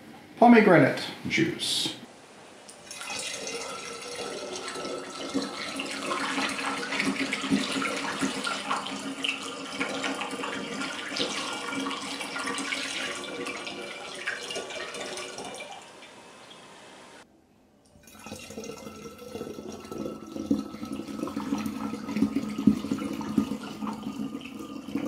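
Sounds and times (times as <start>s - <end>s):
juice pouring into jug: 2.7s - 16.1s, 18.0s - 25.0s.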